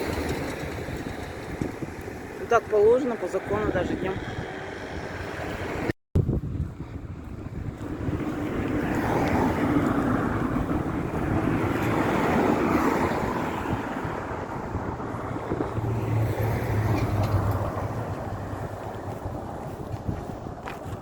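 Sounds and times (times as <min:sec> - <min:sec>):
cars passing: 0:00.0 - 0:21.0
wind buffeting microphone: 0:00.0 - 0:21.0
low engine hum: 0:03.2 - 0:21.0.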